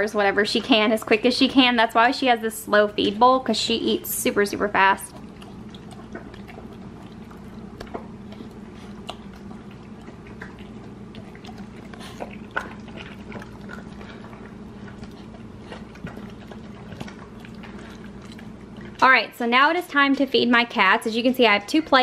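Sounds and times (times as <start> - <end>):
steady low hum: 0.0 - 22.0
dog eating wet food: 0.2 - 20.8.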